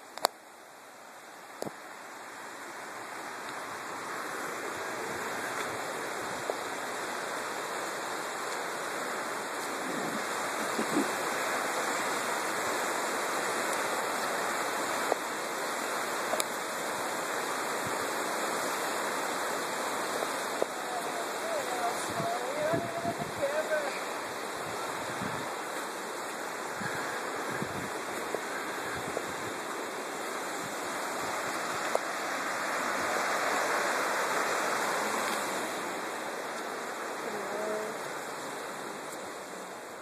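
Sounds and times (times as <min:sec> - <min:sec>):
river rushing over rapids: 0:00.0 - 0:40.0.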